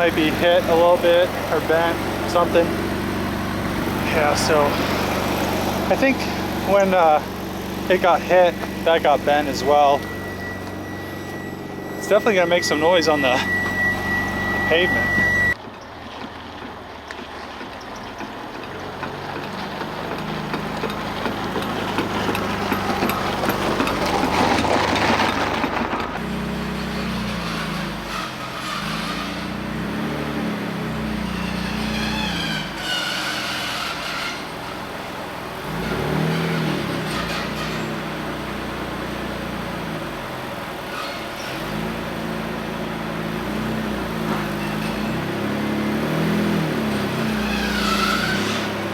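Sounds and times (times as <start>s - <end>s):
car engine revving: 0.0s - 15.6s, 18.9s - 48.9s
jack scraping along pavement: 0.0s - 48.9s.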